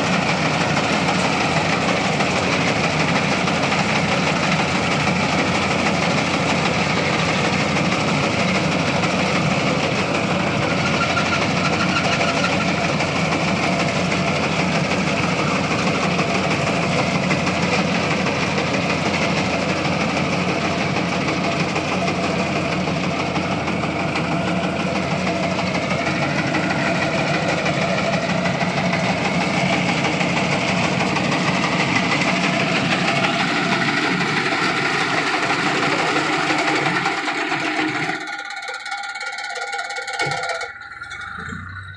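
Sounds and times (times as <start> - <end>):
tractor engine running steadily: 0.0 - 41.9.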